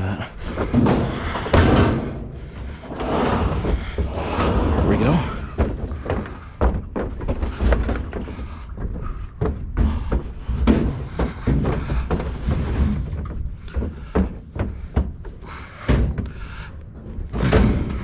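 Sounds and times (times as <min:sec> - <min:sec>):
metal knocks and thuds: 0:00.4 - 0:18.0.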